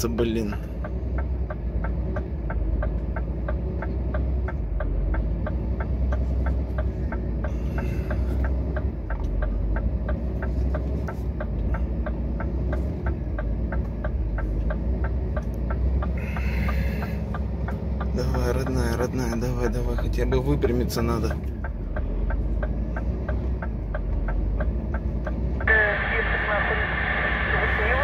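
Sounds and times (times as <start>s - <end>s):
light regular ticking: 0.0s - 25.7s
truck diesel engine droning: 0.0s - 28.0s.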